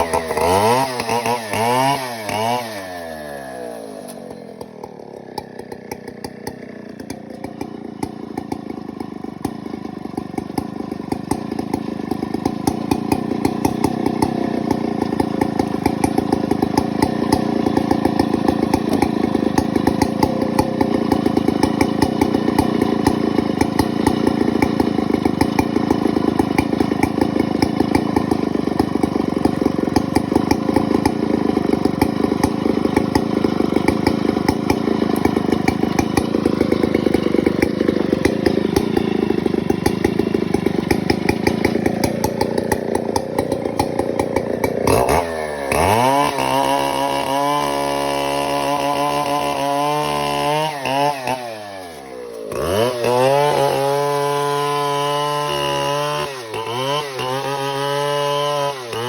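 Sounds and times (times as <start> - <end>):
chainsaw engine running: 0.0 - 59.0.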